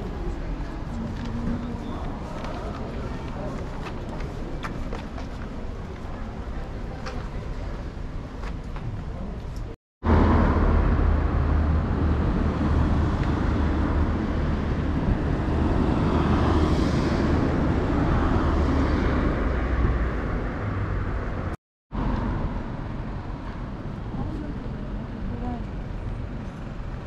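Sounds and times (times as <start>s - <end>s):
moving vehicle rumble: 0.0s - 27.0s.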